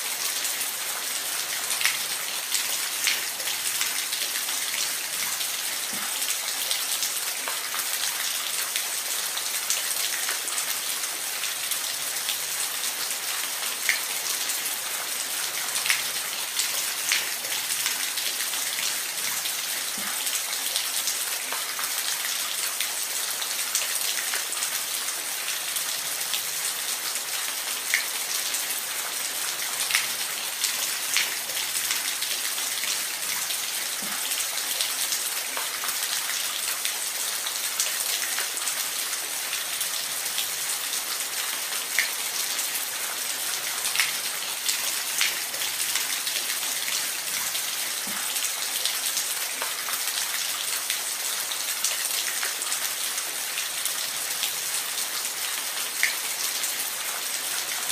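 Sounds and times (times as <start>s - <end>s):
water drips and splashes: 0.0s - 57.9s.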